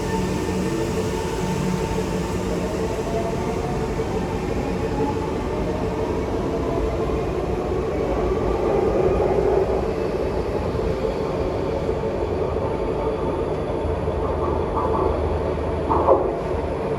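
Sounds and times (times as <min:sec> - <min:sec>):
metro train rail rumble: 0:00.0 - 0:16.9.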